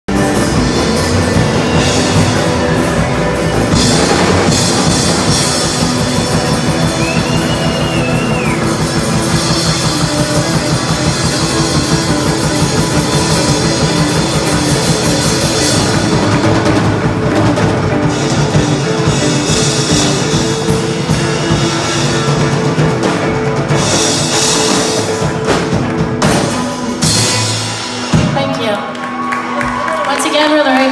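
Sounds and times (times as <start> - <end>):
rock band playing: 0.0 - 30.9
drum kit beat: 0.1 - 30.9.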